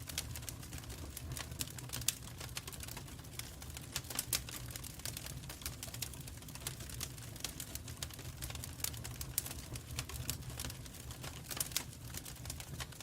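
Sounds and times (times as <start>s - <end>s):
low rumble of flames: 0.0s - 13.0s
wood fire crackling: 0.0s - 13.0s.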